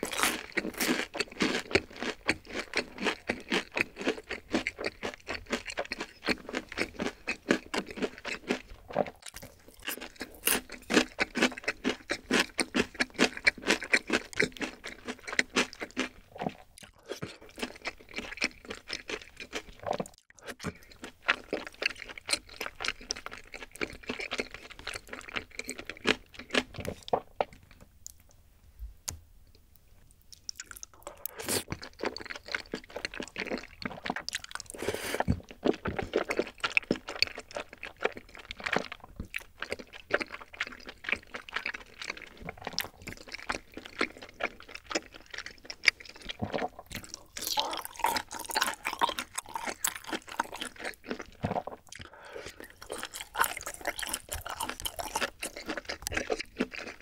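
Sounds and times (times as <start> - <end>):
wet chewing of food: 0.0 - 28.2, 30.3 - 57.0.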